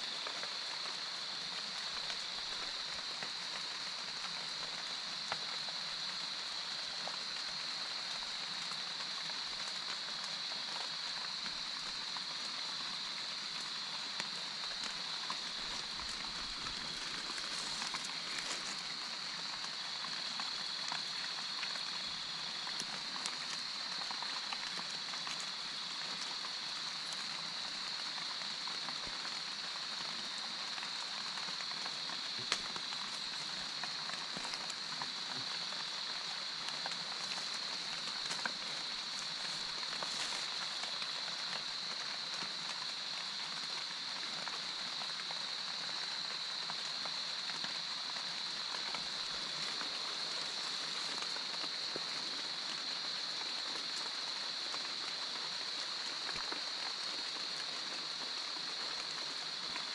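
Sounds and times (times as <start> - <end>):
night insect chorus drone: 0.0 - 59.9.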